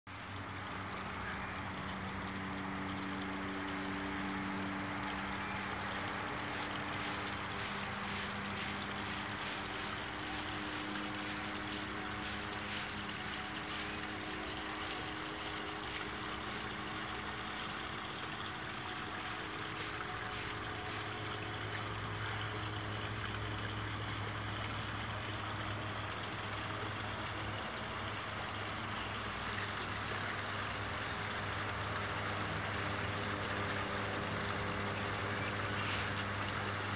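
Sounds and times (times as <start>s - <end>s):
constant low hum: 0.1s - 36.9s.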